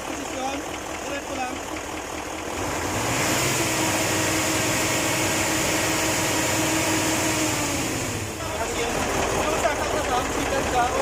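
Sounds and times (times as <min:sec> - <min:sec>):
diesel engine drone: 0:00.0 - 0:11.0
engine hissing: 0:00.0 - 0:11.0.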